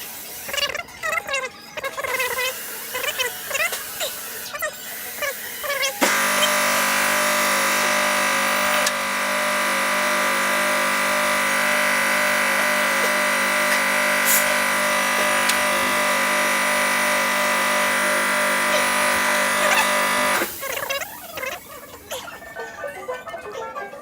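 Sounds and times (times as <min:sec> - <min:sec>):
small electric motor running: 0:02.0 - 0:21.7.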